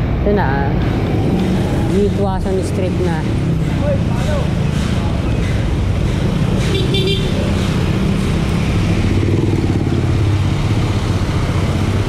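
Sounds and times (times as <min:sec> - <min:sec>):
road noise: 0:00.0 - 0:12.0
vehicle engine running: 0:00.6 - 0:12.0.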